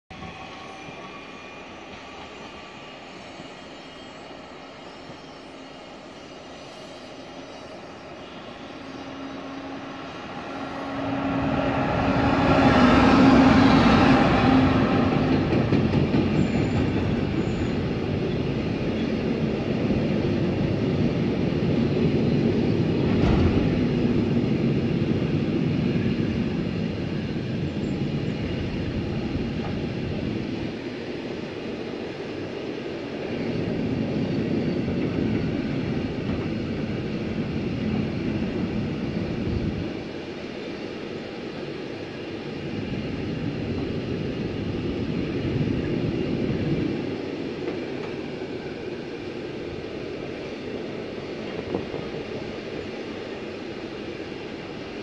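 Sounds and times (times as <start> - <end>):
electric locomotive hum: 0.1 - 55.0.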